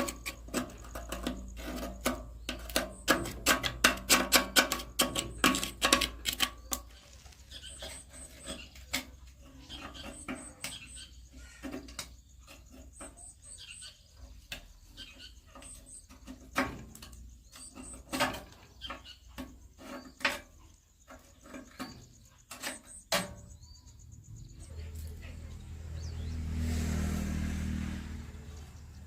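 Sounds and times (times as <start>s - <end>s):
hand tools clicking and scraping: 0.0s - 23.7s.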